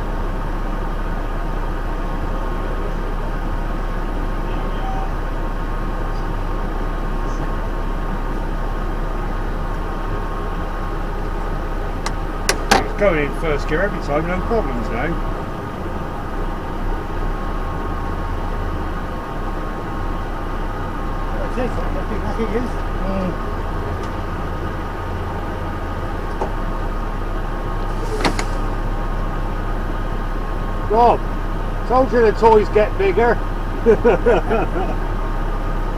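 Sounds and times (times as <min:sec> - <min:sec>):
diesel engine droning: 0:00.0 - 0:35.9
steady whine: 0:00.0 - 0:35.9.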